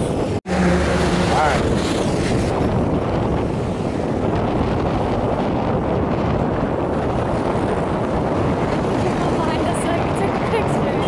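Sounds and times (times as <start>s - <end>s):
road noise: 0.0s - 11.0s
wind on microphone: 0.0s - 11.0s.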